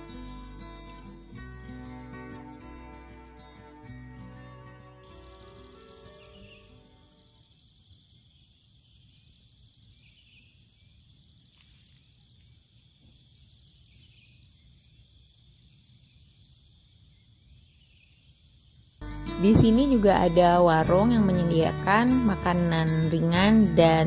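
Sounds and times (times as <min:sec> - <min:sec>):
pulsing insect trill: 0:00.0 - 0:24.0.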